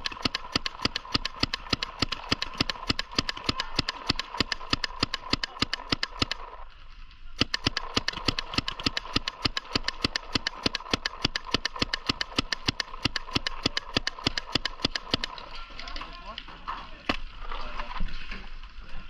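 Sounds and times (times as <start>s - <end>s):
paintball markers firing: 0.0s - 6.6s, 7.4s - 16.0s.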